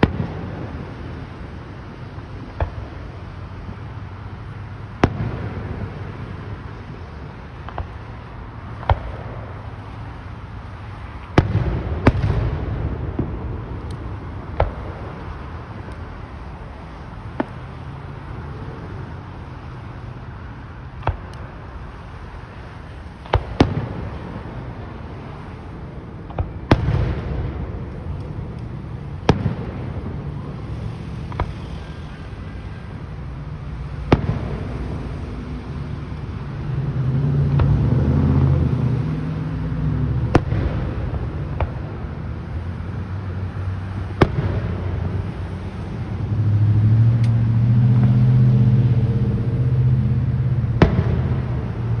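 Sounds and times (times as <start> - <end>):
fireworks bangs: 0.0 - 46.5, 47.2 - 52.0.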